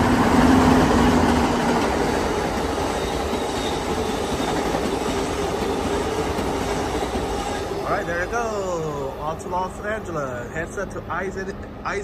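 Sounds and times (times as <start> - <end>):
passenger train rumbling past: 0.0 - 12.0.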